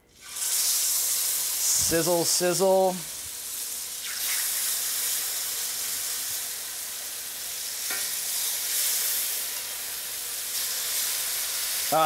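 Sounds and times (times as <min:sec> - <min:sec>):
meat sizzling in a pan: 0:00.1 - 0:12.0.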